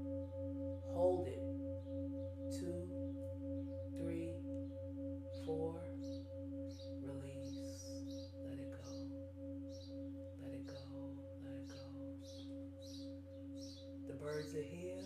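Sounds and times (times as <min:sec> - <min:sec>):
birds chirping: 0:00.0 - 0:15.0
singing bowl ringing: 0:00.0 - 0:15.0.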